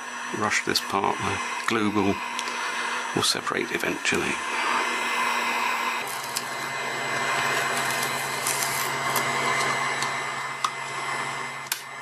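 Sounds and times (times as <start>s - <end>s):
hot air gun fan humming: 0.0s - 12.0s.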